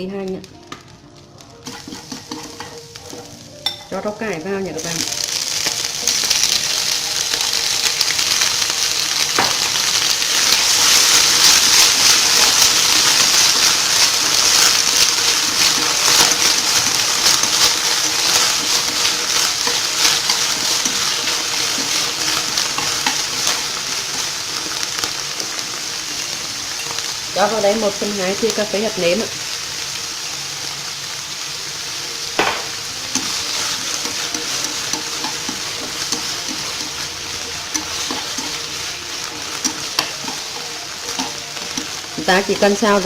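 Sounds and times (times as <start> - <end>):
vegetables sizzling in hot oil: 0.0 - 43.0.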